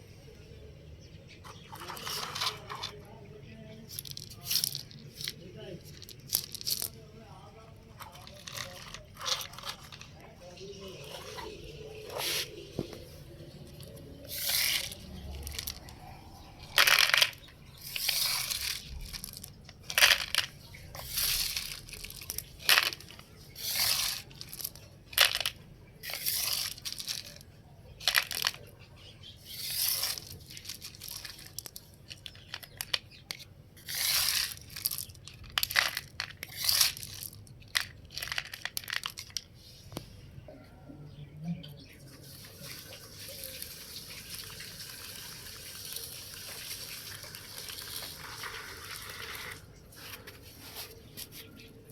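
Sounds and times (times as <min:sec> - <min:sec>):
gravel crunching and pouring: 0:01.5 - 0:39.5, 0:42.2 - 0:51.1.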